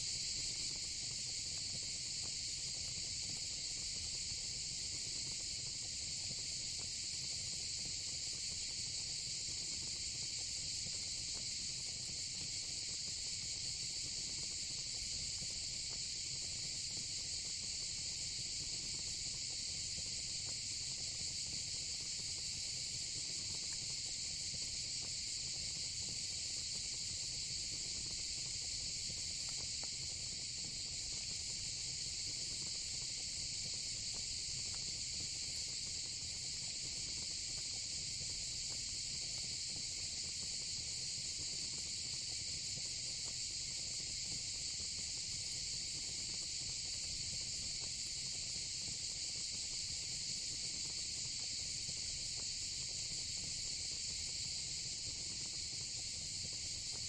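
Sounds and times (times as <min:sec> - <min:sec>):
faint fire crackles: 0:00.1 - 0:57.0.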